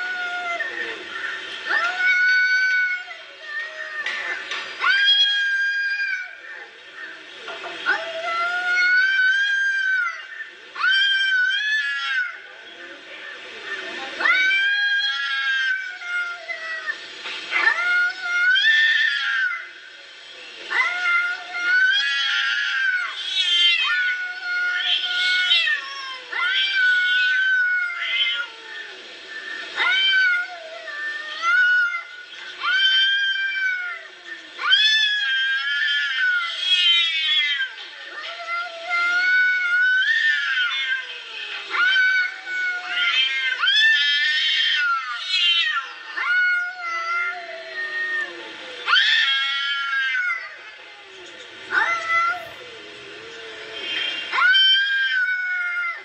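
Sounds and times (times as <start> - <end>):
cats yowling: 0.0 - 7.2, 7.8 - 20.0, 20.7 - 56.0.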